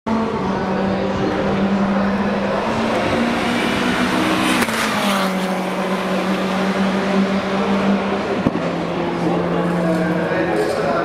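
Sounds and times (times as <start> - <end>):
race car engine revving: 0.1 - 11.0.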